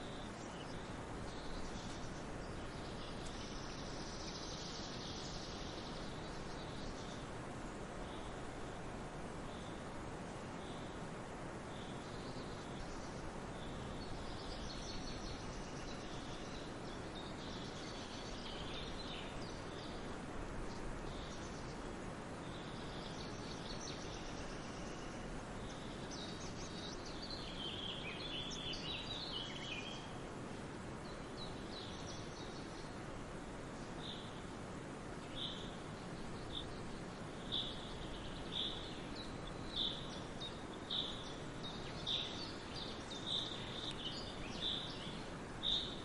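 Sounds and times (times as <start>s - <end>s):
songbirds chirping: 0.0s - 46.0s
steady background hiss: 0.0s - 46.0s.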